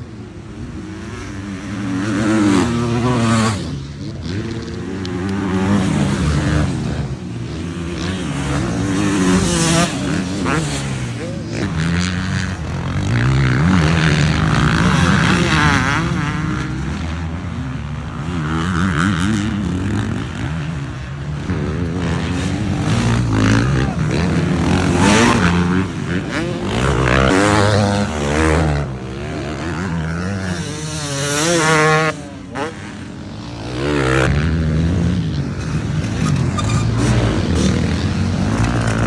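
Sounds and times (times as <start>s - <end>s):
motocross bikes revving: 0.0s - 39.0s.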